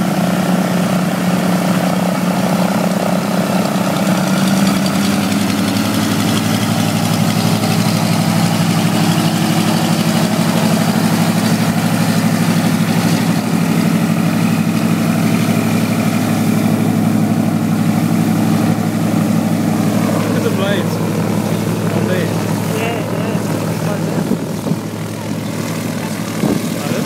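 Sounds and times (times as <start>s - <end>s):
loud engine drone: 0.0s - 27.0s.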